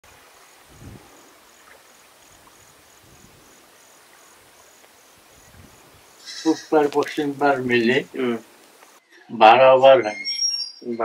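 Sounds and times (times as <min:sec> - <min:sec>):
crickets chirping: 0:00.1 - 0:09.1.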